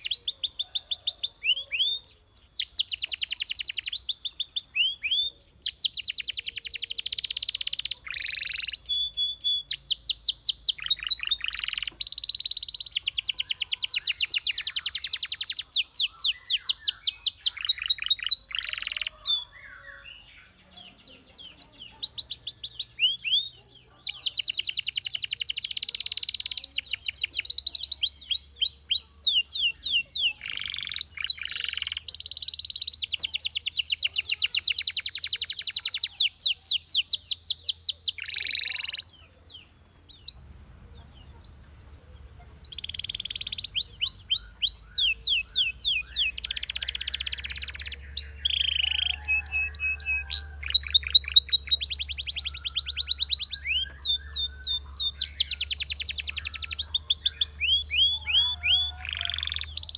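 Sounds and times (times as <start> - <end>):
canary trilling: 0.0 - 59.9.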